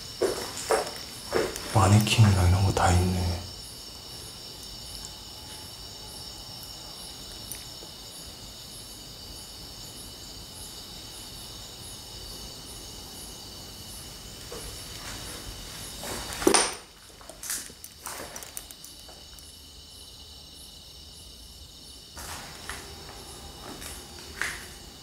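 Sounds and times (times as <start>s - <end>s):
crickets singing: 0.0s - 25.0s.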